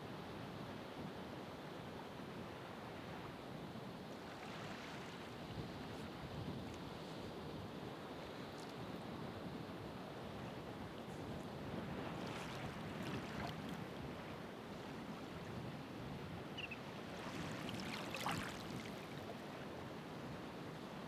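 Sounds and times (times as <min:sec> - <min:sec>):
ocean waves on shore: 0:02.4 - 0:21.0.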